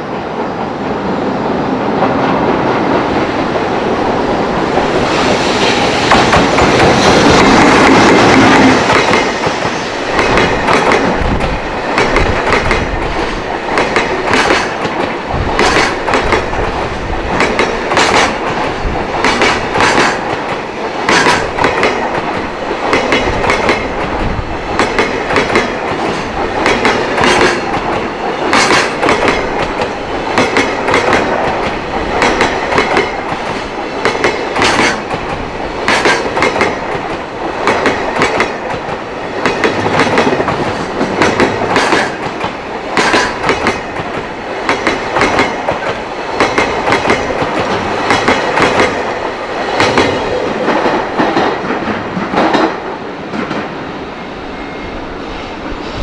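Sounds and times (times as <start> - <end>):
train wheels clattering over rails: 0.2 - 53.8.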